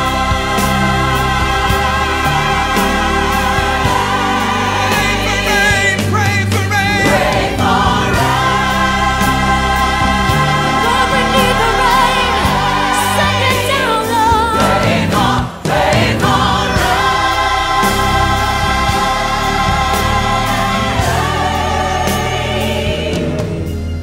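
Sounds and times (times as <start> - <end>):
choir singing long notes: 0.0 - 24.0.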